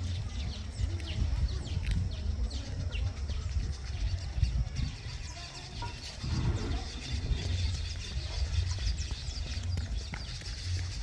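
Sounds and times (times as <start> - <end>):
birds chattering: 0.0 - 11.0.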